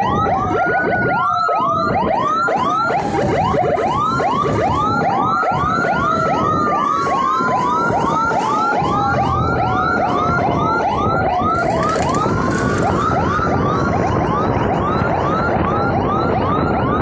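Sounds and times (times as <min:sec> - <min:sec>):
siren wail: 0:00.0 - 0:17.0
siren yelp: 0:00.0 - 0:17.0.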